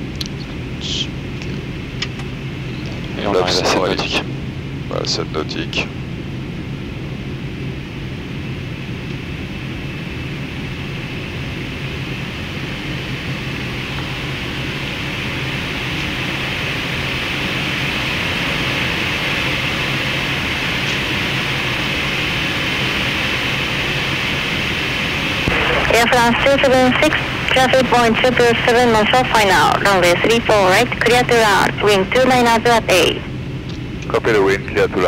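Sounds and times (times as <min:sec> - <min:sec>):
air-conditioning hiss: 0:00.0 - 0:35.0
low hum: 0:00.0 - 0:35.0.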